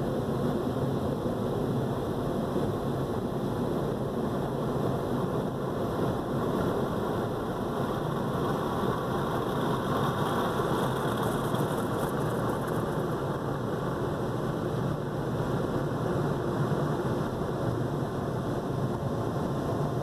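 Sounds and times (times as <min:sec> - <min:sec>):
car wash rumble and hiss: 0:00.0 - 0:20.0.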